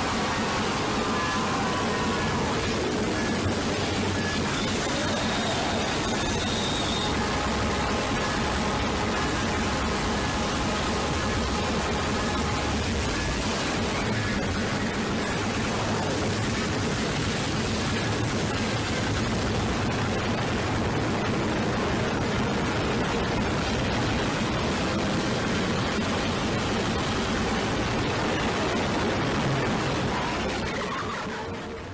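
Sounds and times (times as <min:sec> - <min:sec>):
harsh distorted static noise: 0:00.0 - 0:31.9.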